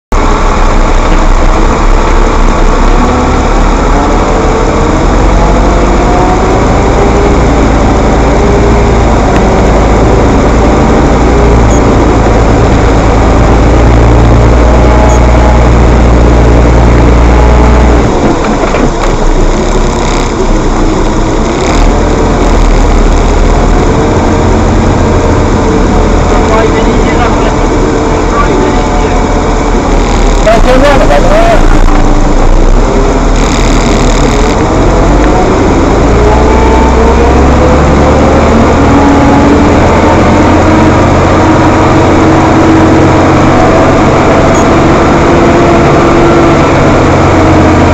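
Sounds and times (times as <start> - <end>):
heavy diesel engine rumbling: 0.1 - 47.9
wavering higher drone: 0.1 - 47.9.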